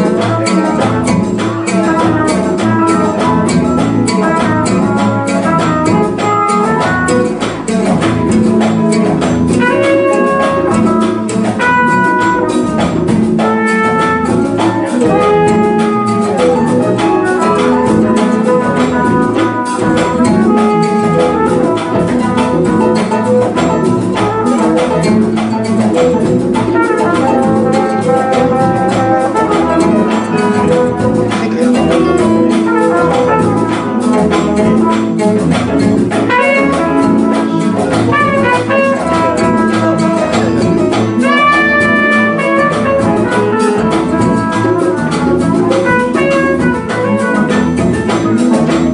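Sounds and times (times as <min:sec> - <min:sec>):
piano and guitar accompaniment: 0:00.0 - 0:48.9
trumpet playing lead: 0:00.0 - 0:48.9.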